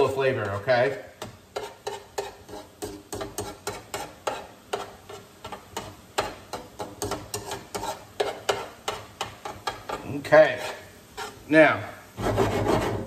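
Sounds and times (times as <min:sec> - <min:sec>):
faint sizzle: 0:00.0 - 0:12.2
metal utensil scraping skillet: 0:00.0 - 0:13.0.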